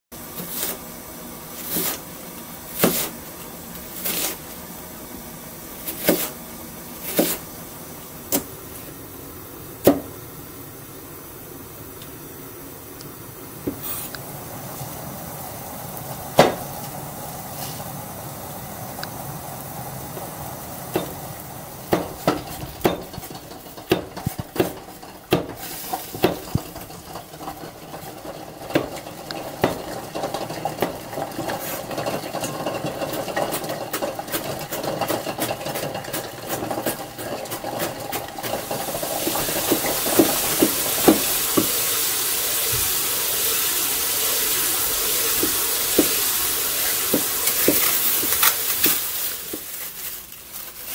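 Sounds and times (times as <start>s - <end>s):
steady hiss: 0.2s - 50.9s.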